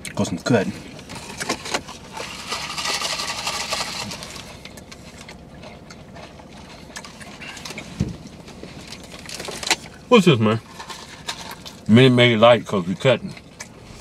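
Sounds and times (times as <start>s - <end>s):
chewing sandwich: 0.0s - 11.9s, 13.2s - 14.0s
steady low hum: 0.0s - 14.0s.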